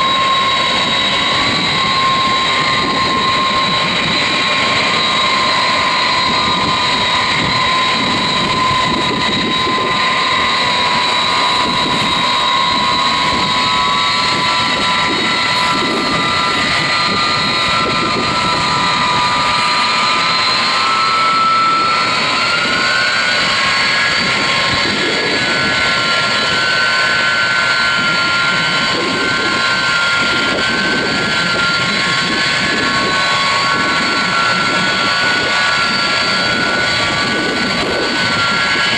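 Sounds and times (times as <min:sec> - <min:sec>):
jet engine whine: 0:00.0 - 0:38.9
rushing jet noise: 0:00.0 - 0:38.9.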